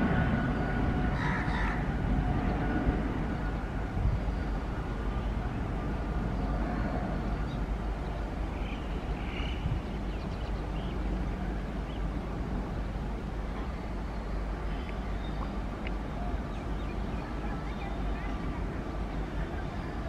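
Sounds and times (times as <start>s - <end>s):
electric locomotive rumbling: 0.0s - 20.0s.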